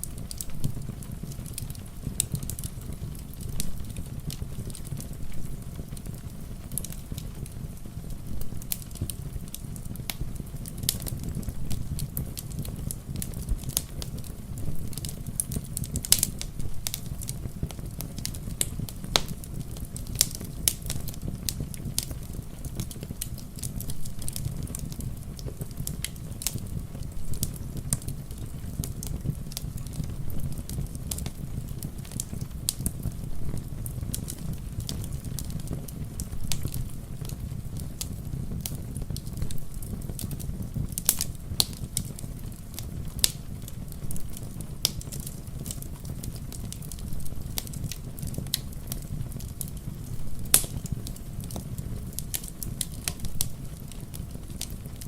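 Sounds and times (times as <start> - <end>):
rain rumble: 0.0 - 55.0
wood fire crackling: 0.0 - 55.0.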